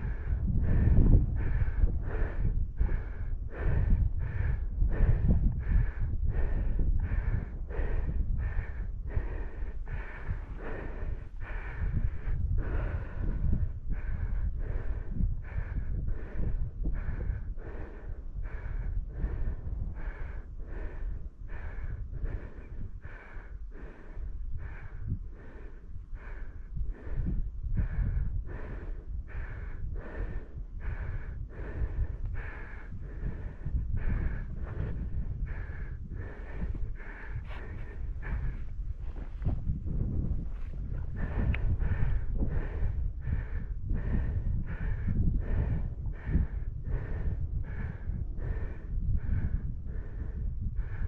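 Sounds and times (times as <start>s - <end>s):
person breathing hard: 0.0s - 51.0s
wind rumbling on microphone: 0.0s - 51.0s.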